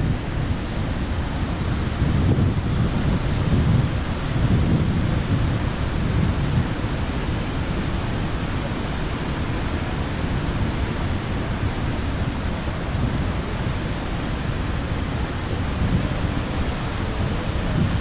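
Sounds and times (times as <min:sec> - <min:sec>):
wind buffeting microphone: 0:00.0 - 0:08.9, 0:09.8 - 0:18.0
waterfall rushing: 0:00.0 - 0:18.0.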